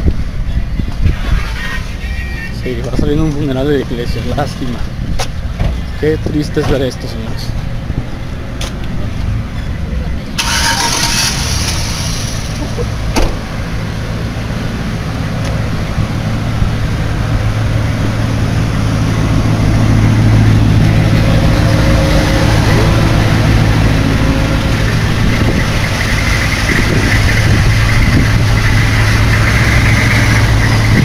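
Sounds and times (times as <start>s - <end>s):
car engine hum: 2.7s - 31.0s.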